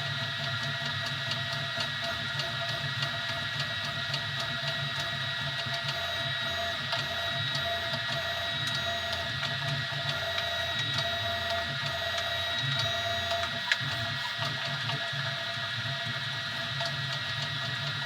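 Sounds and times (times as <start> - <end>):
three d printer whining: 1.8 - 18.0.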